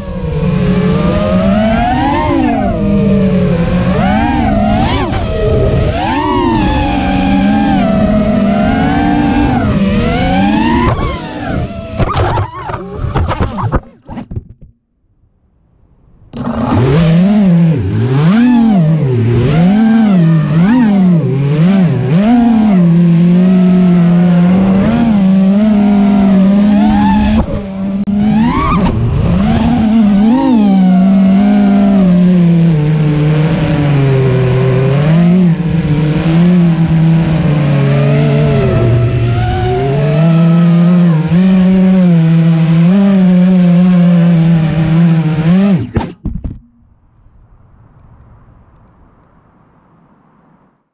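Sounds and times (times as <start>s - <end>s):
drone motors whining: 0.0s - 14.2s, 16.3s - 46.9s.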